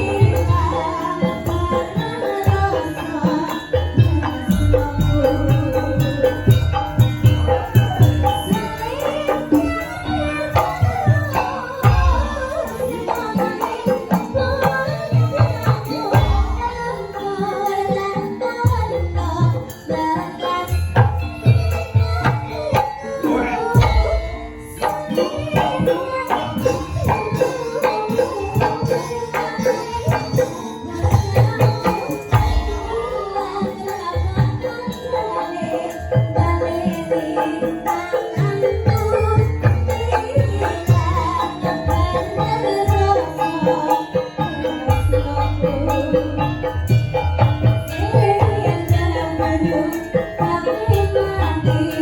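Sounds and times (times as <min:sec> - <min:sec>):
jingling percussion: 0:00.0 - 0:52.0.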